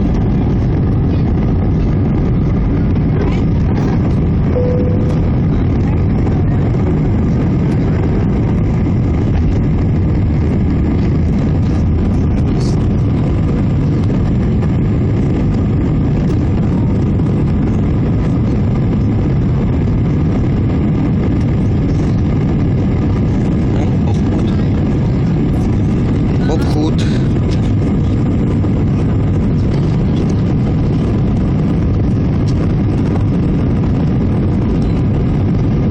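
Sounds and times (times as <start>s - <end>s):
jet engine and airflow noise: 0.0s - 35.9s.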